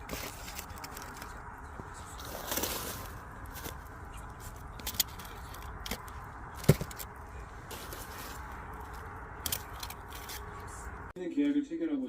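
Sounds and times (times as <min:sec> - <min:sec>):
wood fire burning: 0:00.0 - 0:11.1.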